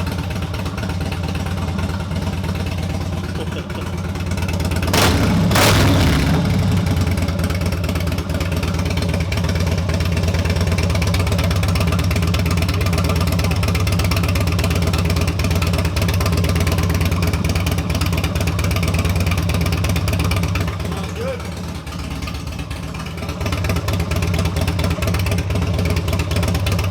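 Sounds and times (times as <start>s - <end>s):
motorcycle engine rumble: 0.0s - 26.9s.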